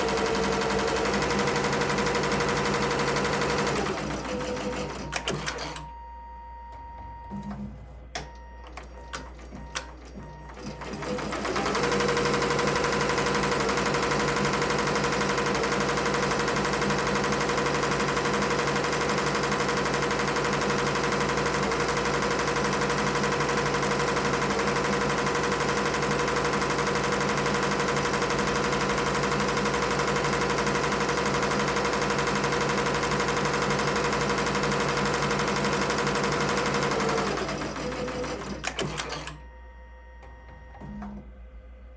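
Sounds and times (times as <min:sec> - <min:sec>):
embroidery machine stitching: 0:00.0 - 0:05.8, 0:08.6 - 0:39.4.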